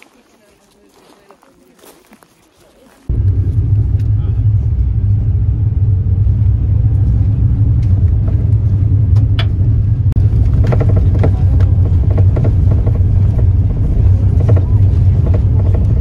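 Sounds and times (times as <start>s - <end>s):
boat engine droning: 3.1s - 16.0s.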